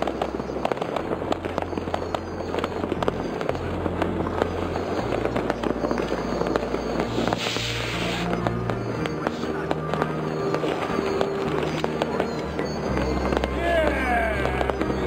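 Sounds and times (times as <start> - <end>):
fireworks crackling and banging: 0.0 - 15.0
low bass line of music: 0.0 - 15.0.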